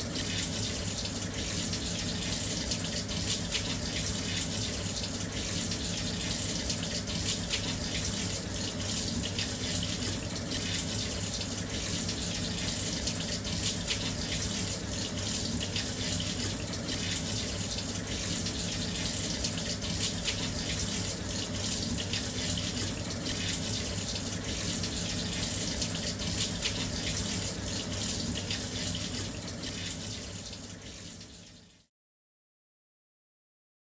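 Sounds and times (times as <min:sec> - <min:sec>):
water pouring into washing machine: 0:00.0 - 0:31.9.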